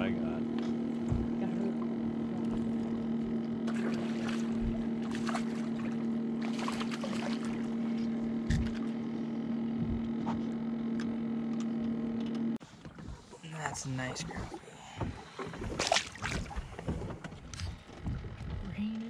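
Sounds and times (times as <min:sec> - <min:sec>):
electric trolling motor humming: 0:00.0 - 0:19.0.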